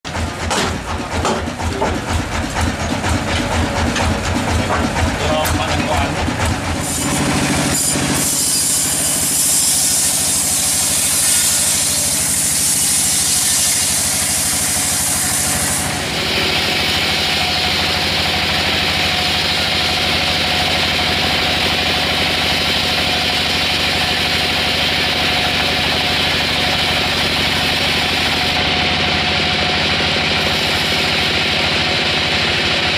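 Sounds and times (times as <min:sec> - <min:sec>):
band sawmill humming: 0:00.1 - 0:32.9.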